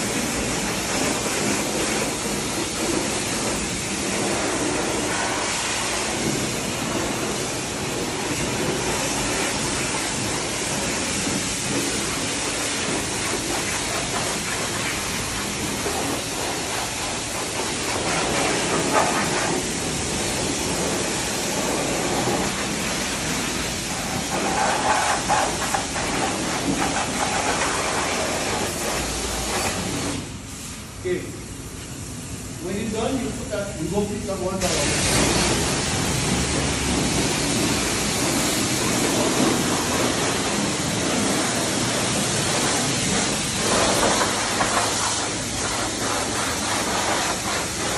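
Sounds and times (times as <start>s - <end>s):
pressure washer spraying water: 0.0s - 47.9s.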